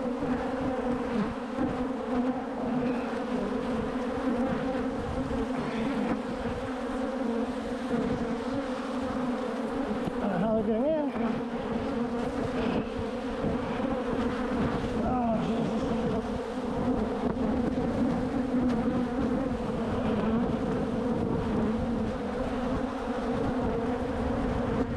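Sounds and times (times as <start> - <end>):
bees buzzing: 0.0 - 24.9.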